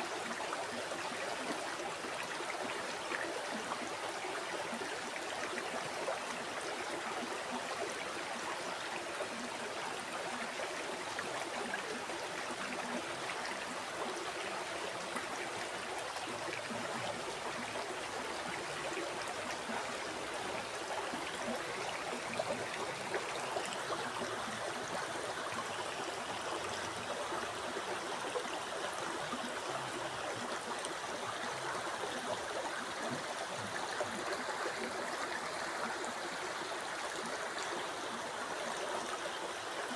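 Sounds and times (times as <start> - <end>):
river water babbling over rocks: 0.2 - 39.9.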